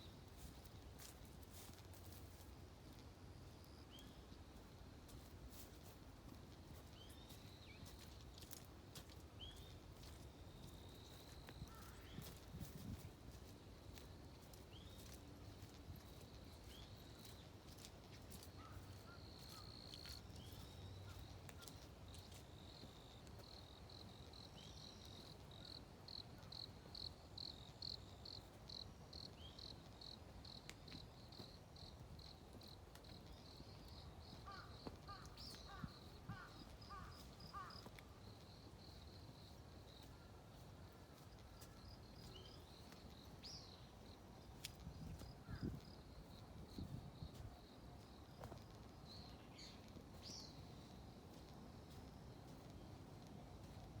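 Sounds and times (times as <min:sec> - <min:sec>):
faint birdsong: 0:03.4 - 0:54.0.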